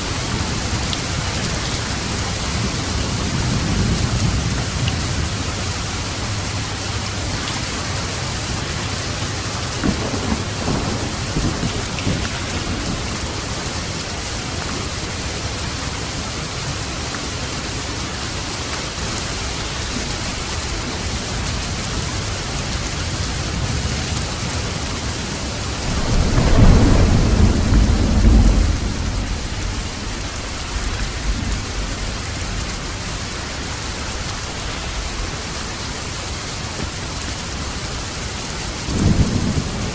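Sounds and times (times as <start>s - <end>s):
low thunder rumbling: 0.0s - 17.1s, 17.7s - 39.9s
steady rain falling: 0.0s - 39.9s.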